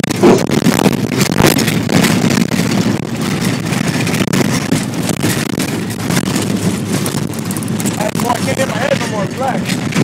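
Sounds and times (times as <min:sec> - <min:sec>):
car engine running: 0:00.0 - 0:10.0
moving vehicle noise: 0:00.0 - 0:10.0
short rattles and knocks: 0:00.1 - 0:10.0.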